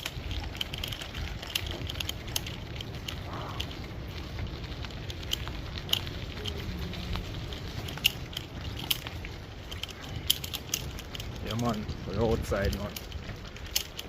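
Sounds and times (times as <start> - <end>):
sharp clicks and crackles: 0.0 - 14.0
wind buffeting microphone: 0.0 - 14.0.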